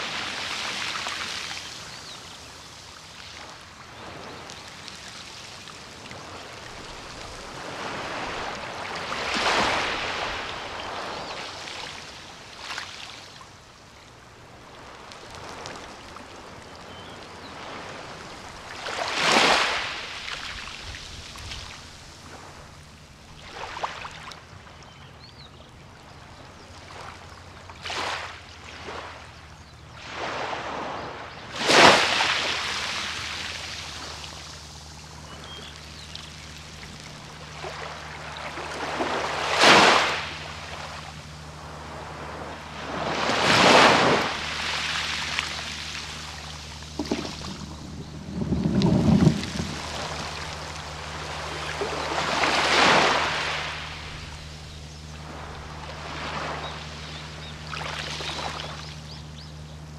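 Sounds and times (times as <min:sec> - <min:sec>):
small waves breaking on beach: 0:00.0 - 0:24.9, 0:25.9 - 0:59.6.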